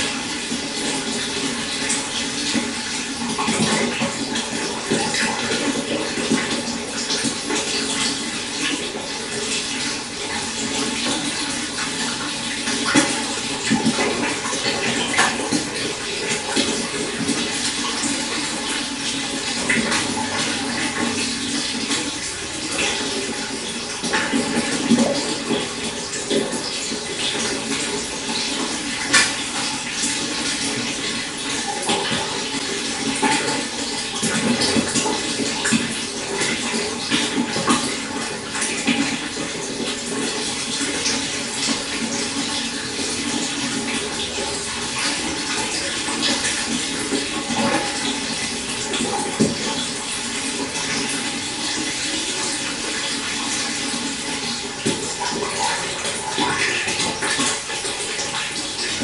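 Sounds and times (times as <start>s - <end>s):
stream running over stones: 0.0s - 59.0s
water splashes: 0.0s - 59.0s.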